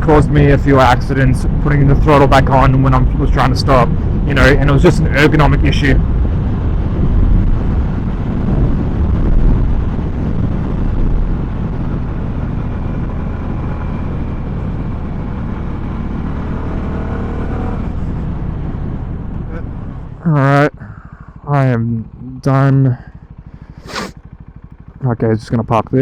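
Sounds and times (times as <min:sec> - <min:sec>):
wind rushing over microphone: 0:00.0 - 0:20.8
motorcycle engine running: 0:00.0 - 0:26.0.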